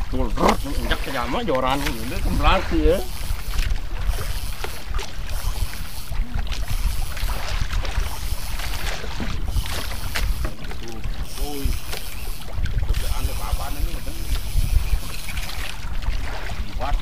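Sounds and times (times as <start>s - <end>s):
water splashing against a hull: 0.0s - 17.0s
wind buffeting microphone: 0.0s - 17.0s.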